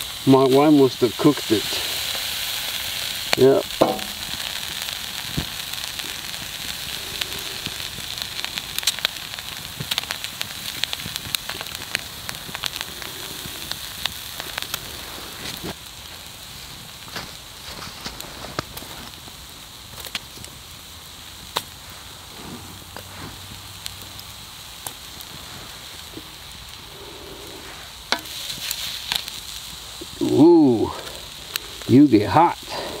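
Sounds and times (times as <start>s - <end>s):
campfire crackling and popping: 0.0s - 33.0s
food sizzling in a pan: 0.0s - 33.0s.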